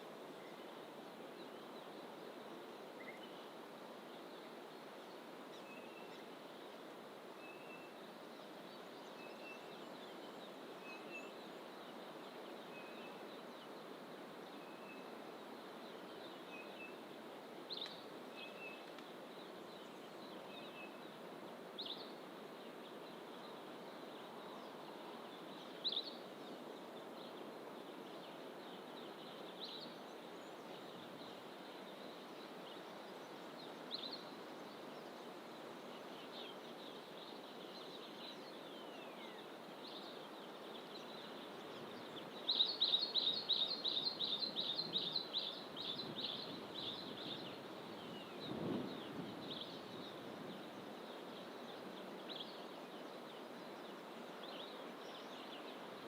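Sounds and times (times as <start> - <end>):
songbirds calling: 0.0 - 56.0.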